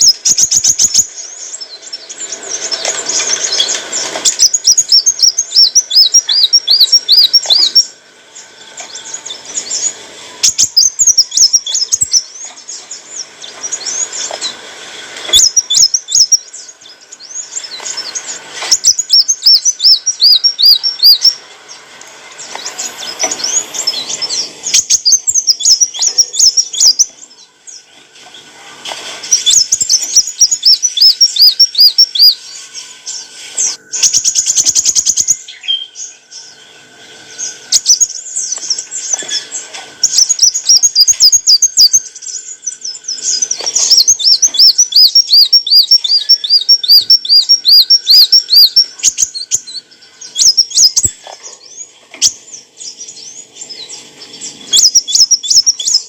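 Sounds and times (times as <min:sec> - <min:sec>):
sunbird high chirping song: 0:00.0 - 0:56.0.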